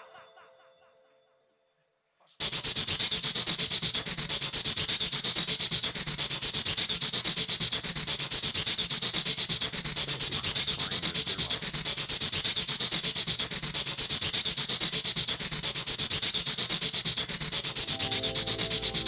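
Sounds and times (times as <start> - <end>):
rhythmic scratching rubbing: 2.4 - 19.0.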